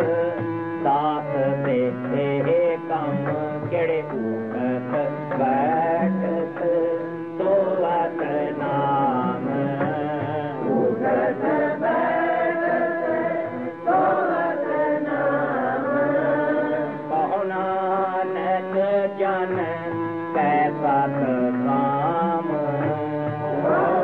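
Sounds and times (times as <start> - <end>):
person chanting a hymn: 0.0 - 24.0.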